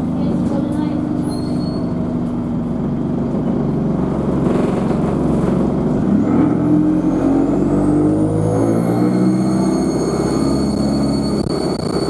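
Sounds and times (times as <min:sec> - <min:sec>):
bus engine accelerating: 0:00.0 - 0:12.0
turbocharger whine: 0:01.6 - 0:12.0.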